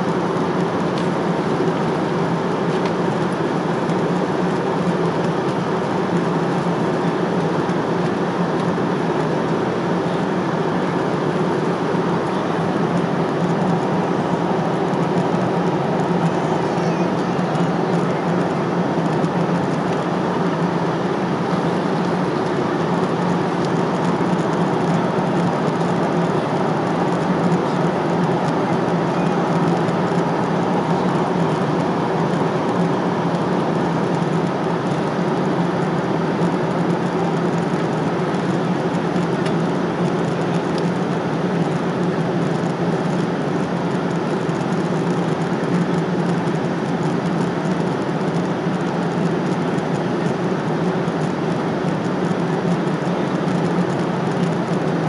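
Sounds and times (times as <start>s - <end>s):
airliner cabin airflow and engines: 0.0s - 55.0s
constant low hum: 0.0s - 55.0s.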